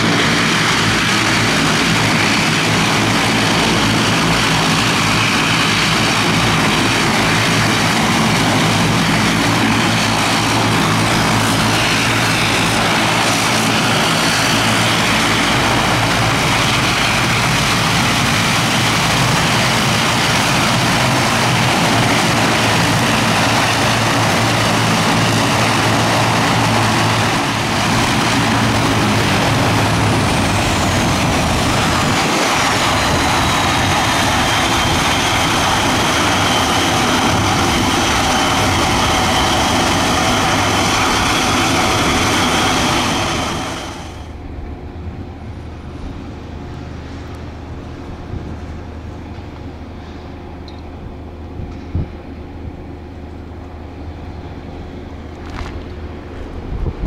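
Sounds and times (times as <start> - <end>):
falling whine: 0.0 - 51.9
turboprop aircraft engines droning: 0.0 - 57.0.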